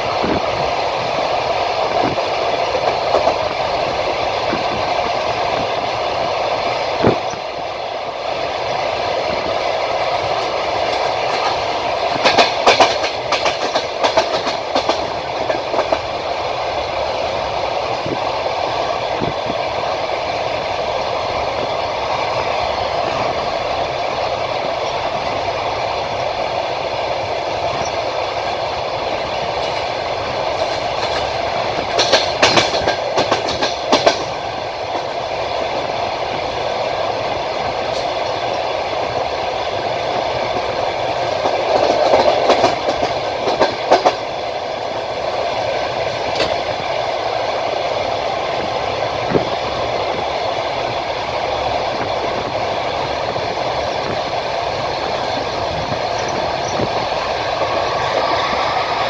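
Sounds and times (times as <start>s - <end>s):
train wheels rumbling: 0.0s - 59.0s
wheels clicking over rail joints: 0.0s - 59.0s.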